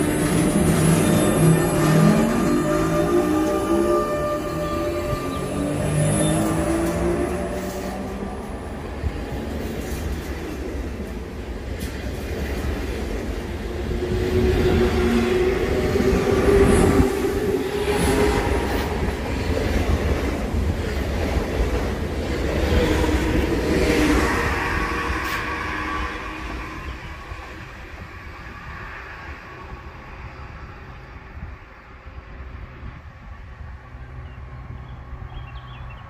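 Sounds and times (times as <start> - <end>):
wheels rumbling on rail: 0.0 - 36.0.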